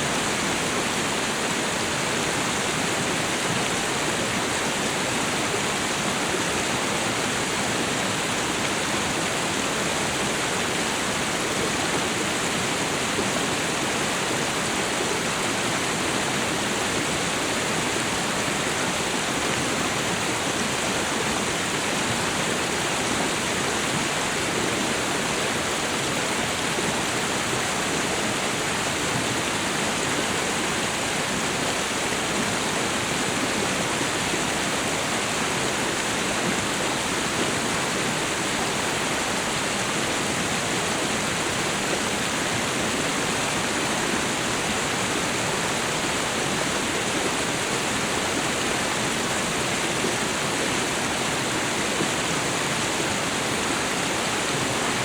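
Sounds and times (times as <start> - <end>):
waterfall and river rushing: 0.0 - 55.0.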